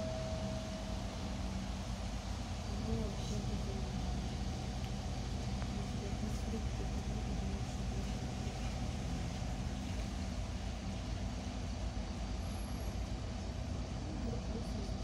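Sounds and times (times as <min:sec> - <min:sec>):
bus engine low hum: 0:00.0 - 0:15.0.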